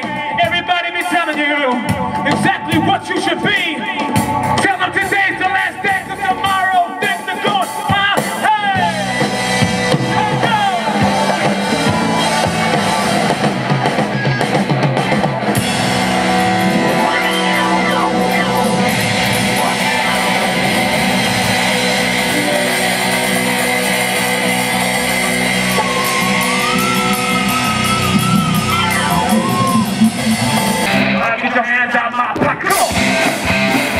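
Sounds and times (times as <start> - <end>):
drum kit: 0.0 - 31.3, 32.2 - 33.9
bass guitar: 0.0 - 33.9
electric guitars: 0.0 - 33.9
wavering lead guitar line: 0.0 - 33.9.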